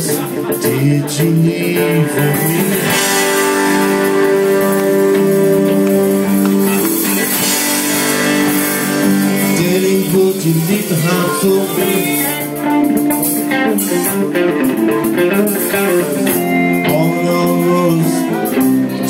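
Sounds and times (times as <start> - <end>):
electric guitar: 0.0 - 19.0
rock band playing: 0.0 - 19.0.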